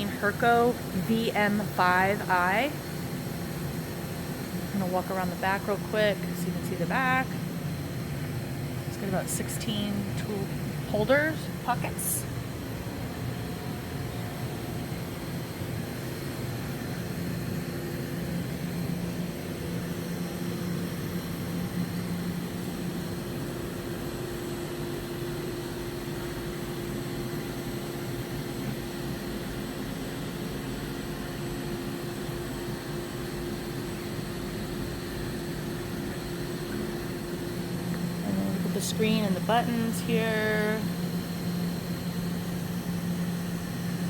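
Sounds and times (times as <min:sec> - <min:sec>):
machine fans and electrics humming: 0:00.0 - 0:44.0.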